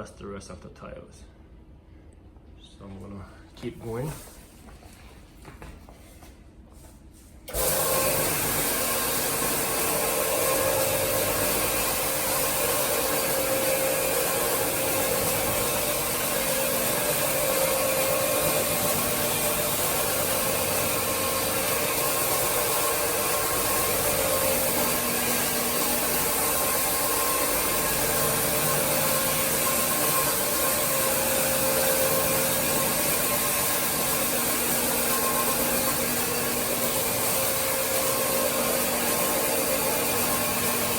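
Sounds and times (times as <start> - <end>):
floor-cleaning machine running: 7.5 - 40.9.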